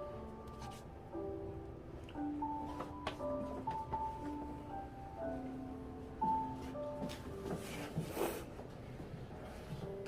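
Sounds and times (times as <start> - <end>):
soft slow instrumental music: 0.0 - 10.0.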